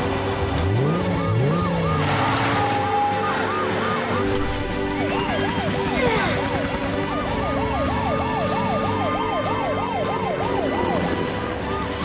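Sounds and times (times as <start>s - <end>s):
background music: 0.0s - 12.0s
cartoon siren wailing: 0.7s - 12.0s.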